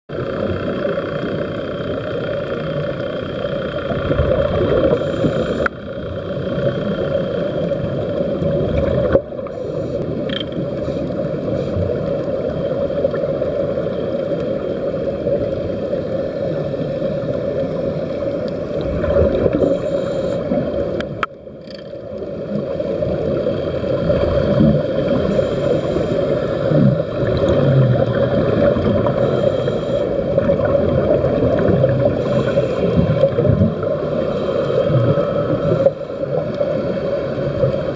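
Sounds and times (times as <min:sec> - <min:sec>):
underwater rumble and hiss: 0:00.1 - 0:37.9.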